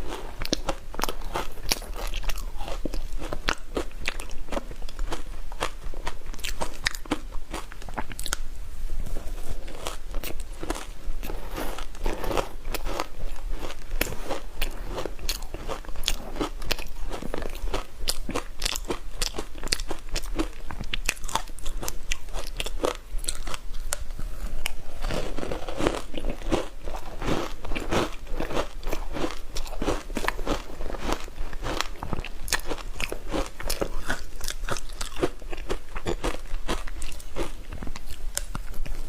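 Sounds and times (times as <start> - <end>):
ice crunching being chewed: 0.0 - 8.4, 9.2 - 39.0.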